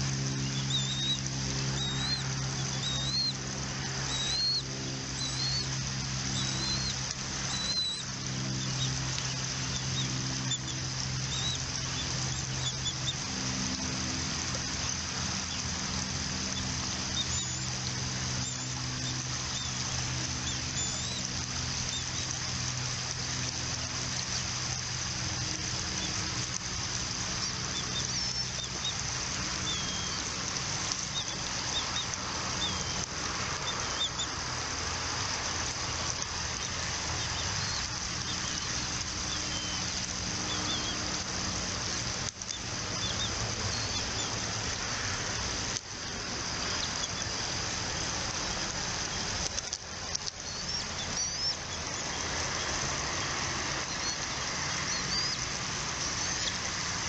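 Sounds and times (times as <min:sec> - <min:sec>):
low even hum: 0:00.0 - 0:57.0
steady background hiss: 0:00.0 - 0:57.0.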